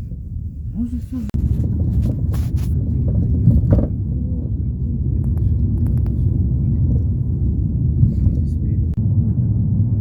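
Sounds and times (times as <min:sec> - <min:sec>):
car rumble inside cabin: 0:00.0 - 0:10.0.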